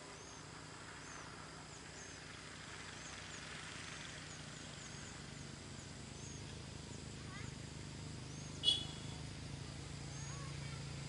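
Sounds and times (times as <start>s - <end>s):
small birds chirping: 0.0s - 11.0s
steady low hum and hiss: 0.0s - 11.0s.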